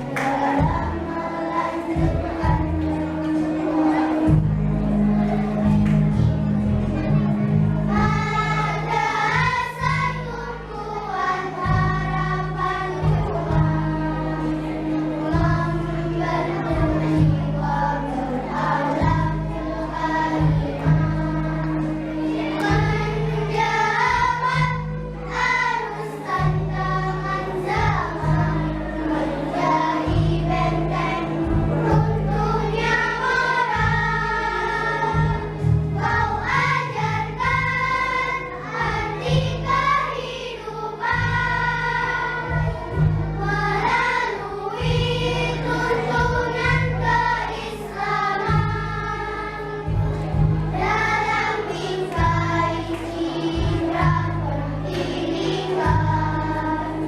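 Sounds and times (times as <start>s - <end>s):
children's choir singing: 0.0s - 57.0s
instrumental accompaniment: 0.0s - 57.0s.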